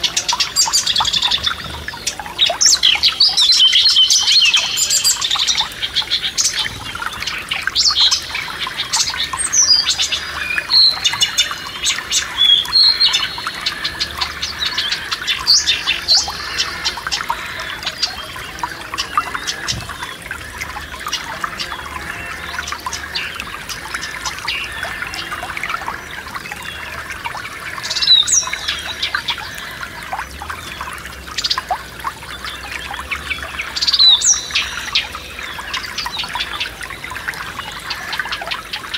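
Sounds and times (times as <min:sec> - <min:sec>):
forest stream rushing: 0:00.0 - 0:38.9
songbirds chirping and singing: 0:00.0 - 0:38.9.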